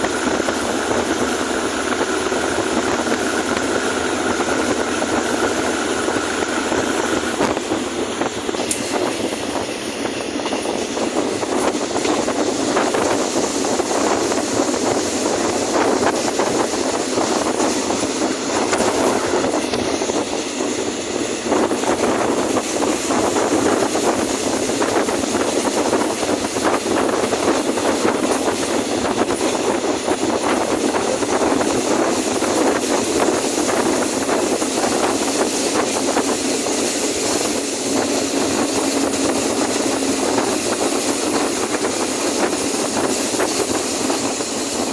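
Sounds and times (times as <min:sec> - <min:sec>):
engine running with even clatter: 0:00.0 - 0:44.9.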